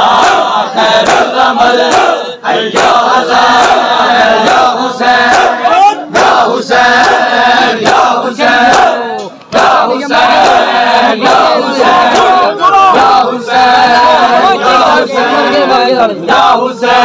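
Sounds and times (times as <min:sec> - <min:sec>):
crowd of men chanting: 0:00.0 - 0:17.0.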